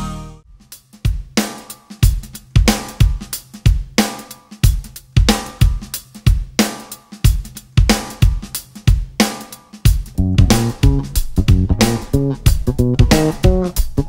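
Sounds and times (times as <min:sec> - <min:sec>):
drum kit steady beat: 0:00.0 - 0:14.0.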